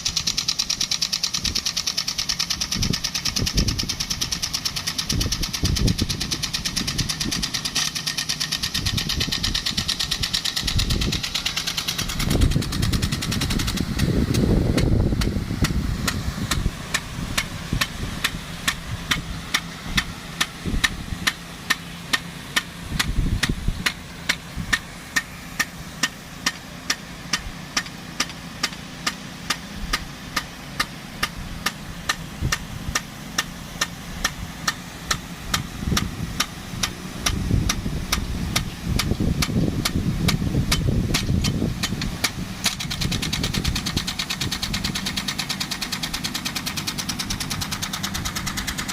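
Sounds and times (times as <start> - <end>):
sprinkler ticking: 0.0 - 48.9
water pump engine running: 0.0 - 48.9.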